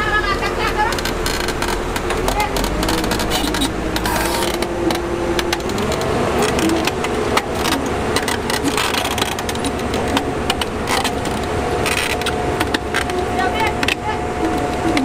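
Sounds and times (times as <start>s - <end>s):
heavy machine engine running: 0.0s - 15.0s
machinery clanks and knocks: 0.0s - 15.0s.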